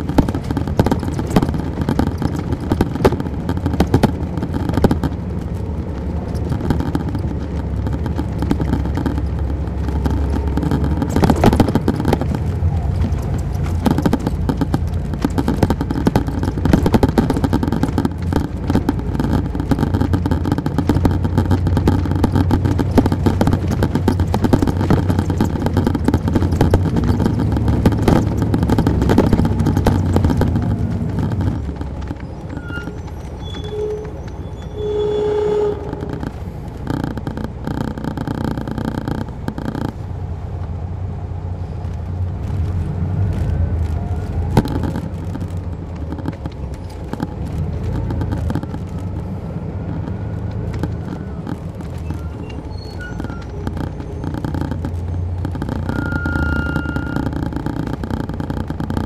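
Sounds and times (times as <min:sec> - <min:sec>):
diesel coach engine running: 0:00.0 - 0:59.0
interior rattles: 0:00.0 - 0:59.0.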